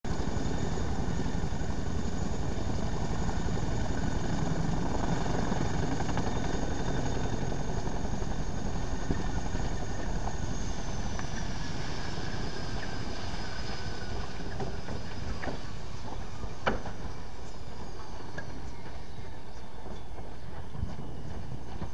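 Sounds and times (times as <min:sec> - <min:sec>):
high turbine whine: 0:00.0 - 0:21.9
helicopter rotors and engines: 0:00.1 - 0:21.9.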